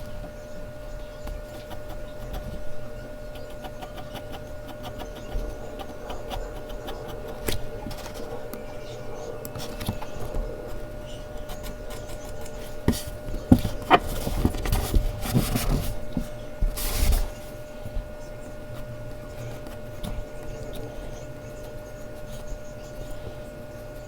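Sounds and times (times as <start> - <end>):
faint steady hum: 0.0 - 24.0
pencil and eraser rubbing on paper: 1.3 - 17.7, 19.3 - 23.4.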